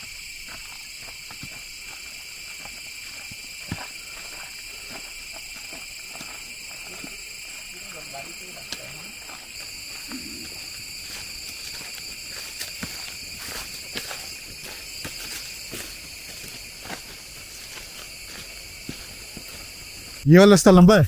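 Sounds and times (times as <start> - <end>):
footsteps on dirt trail: 0.0 - 20.3
shrill insect chorus: 0.0 - 21.0.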